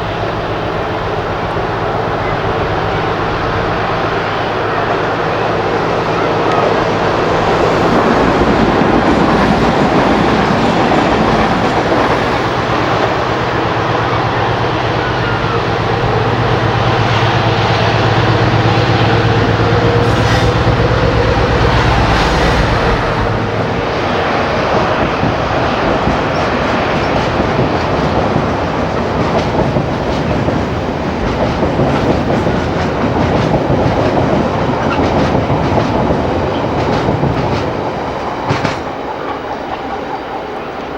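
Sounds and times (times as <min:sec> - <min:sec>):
rumble of passing wagons: 0:00.0 - 0:39.5
diesel locomotive engine: 0:00.0 - 0:40.9.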